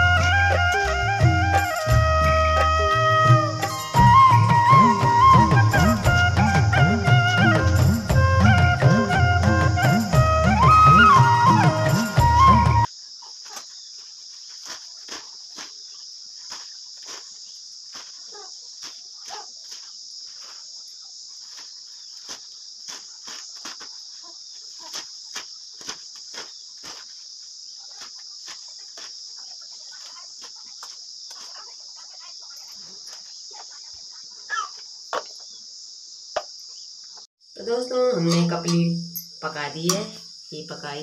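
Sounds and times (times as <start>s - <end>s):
crickets chirring: 0.0s - 41.0s.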